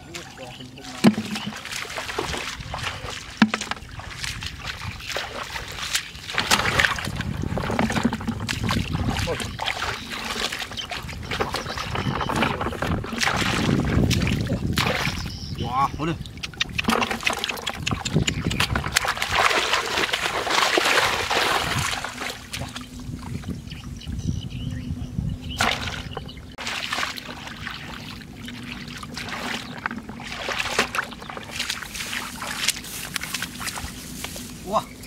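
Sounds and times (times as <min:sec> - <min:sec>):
hands splashing in muddy water: 0:00.8 - 0:15.3, 0:16.3 - 0:22.9, 0:25.6 - 0:34.6.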